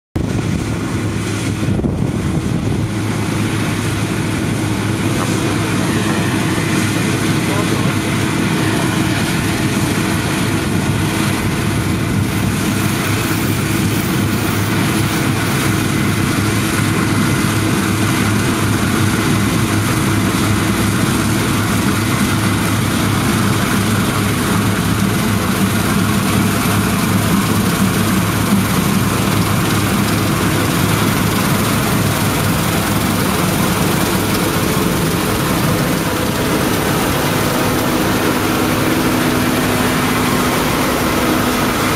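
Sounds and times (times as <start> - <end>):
combine harvester running: 0.2 - 41.9.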